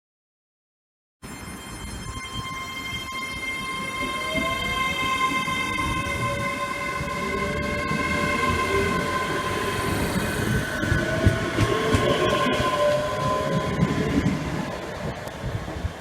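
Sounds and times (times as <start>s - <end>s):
train high-pitched whine: 1.2s - 16.0s
train low rumble: 1.7s - 16.0s.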